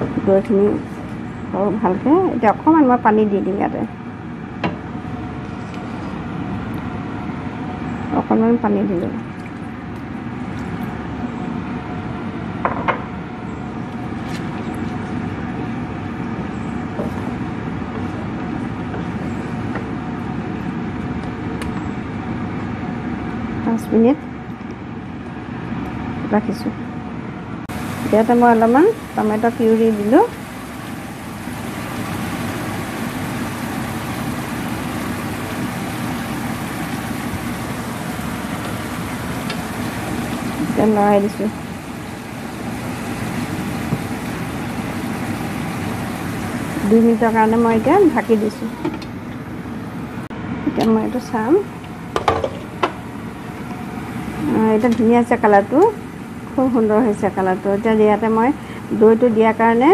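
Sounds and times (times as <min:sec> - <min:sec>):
low machine-like hum: 0:00.0 - 0:59.9.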